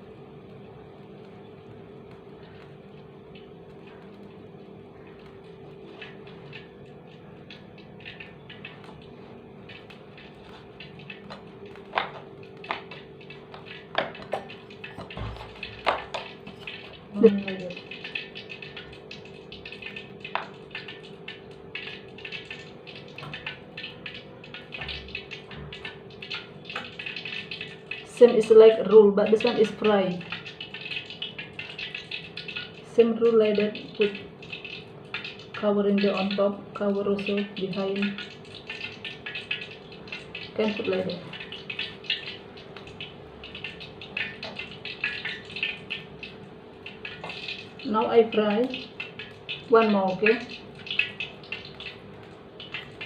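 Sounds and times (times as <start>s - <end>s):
faint steady hum: 0.0s - 53.0s
hot oil crackling and sizzling: 0.0s - 53.0s.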